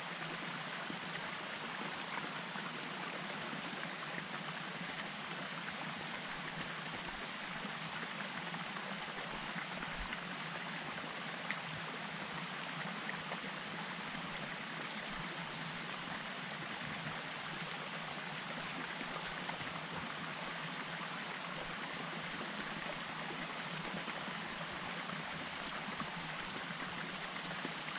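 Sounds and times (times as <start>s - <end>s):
mountain stream flowing: 0.0s - 27.9s.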